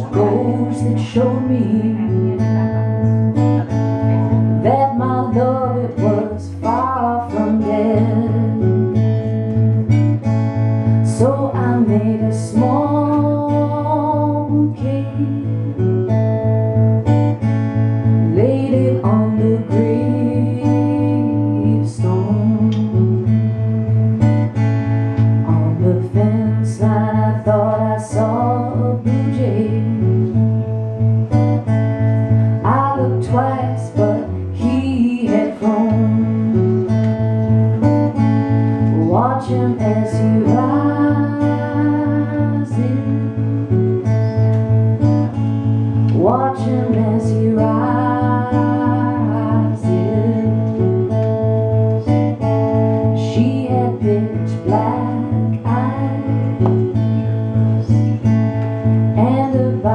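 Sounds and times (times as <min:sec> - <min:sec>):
woman singing: 0:00.0 - 0:10.2, 0:10.9 - 0:16.9, 0:18.0 - 0:24.2, 0:25.2 - 0:30.9, 0:32.5 - 0:59.9
acoustic guitar strumming: 0:00.0 - 0:59.9.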